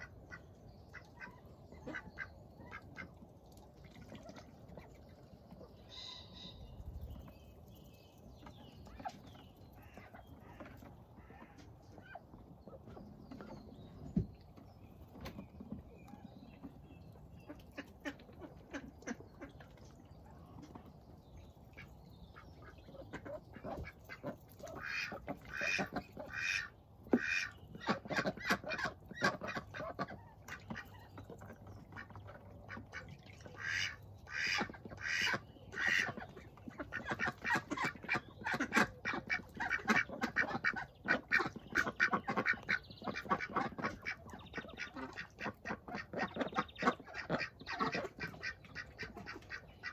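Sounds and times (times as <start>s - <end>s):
ducks quacking: 0.0s - 3.2s, 8.4s - 13.6s, 17.3s - 20.9s, 21.6s - 49.9s.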